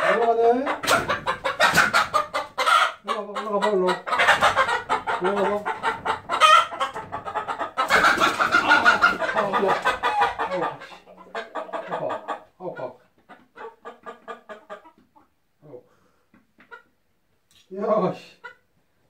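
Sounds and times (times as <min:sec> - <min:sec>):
hen squawking and clucking: 0:00.0 - 0:15.4.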